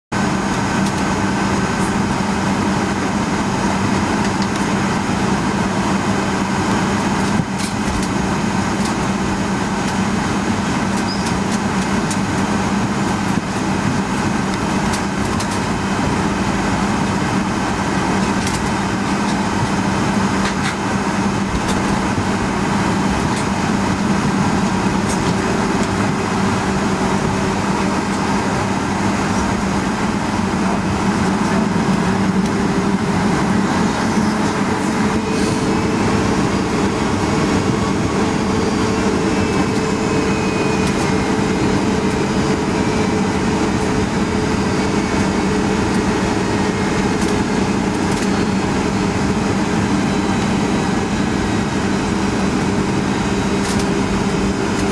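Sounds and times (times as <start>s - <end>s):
aircraft cabin engine drone: 0.1s - 54.9s.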